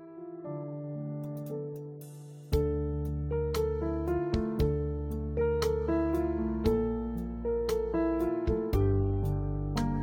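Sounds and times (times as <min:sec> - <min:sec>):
instrumental background music: 0:01.1 - 0:10.0.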